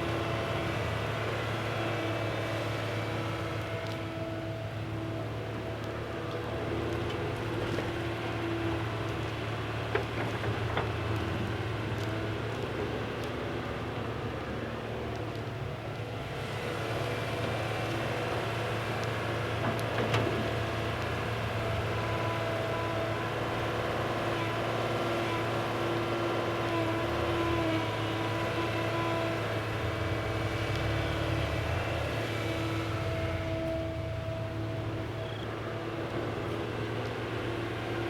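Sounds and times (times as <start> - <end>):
excavator motor drone: 0.0 - 38.0.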